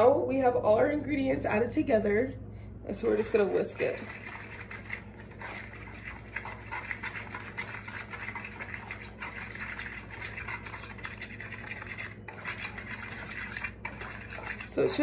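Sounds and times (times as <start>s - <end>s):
whisk beating liquid in bowl: 2.9s - 15.0s.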